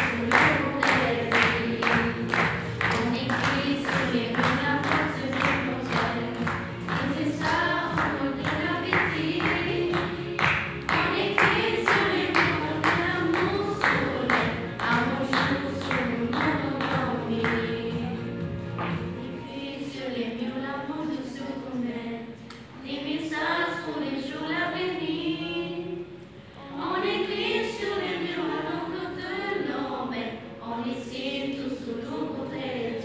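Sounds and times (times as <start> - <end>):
children singing: 0.0 - 18.4, 19.3 - 26.0, 26.6 - 33.0.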